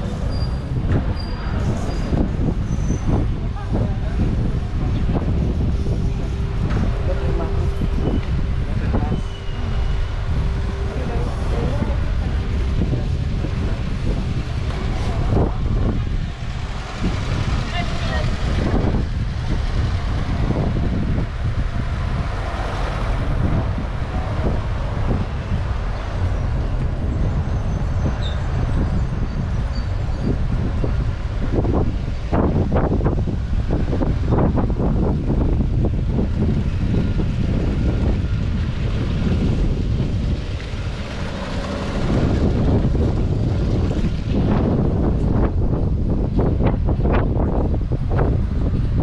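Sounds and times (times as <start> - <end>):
street ambience: 0.0 - 49.0
wind rumbling on microphone: 0.0 - 49.0.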